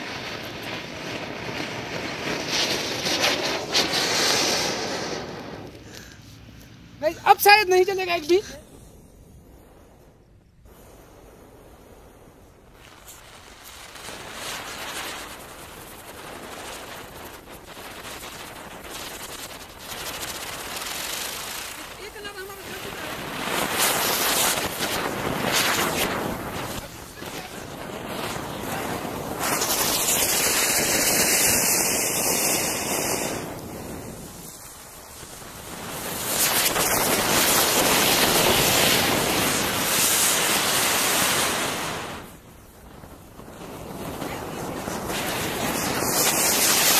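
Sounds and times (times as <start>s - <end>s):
fireworks crackling hiss: 0.0s - 46.9s.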